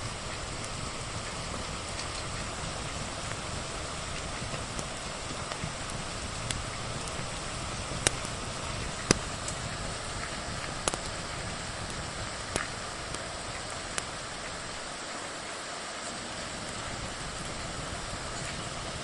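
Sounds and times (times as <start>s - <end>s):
log fire crackling and popping: 0.0s - 19.0s
rain falling: 0.0s - 19.0s.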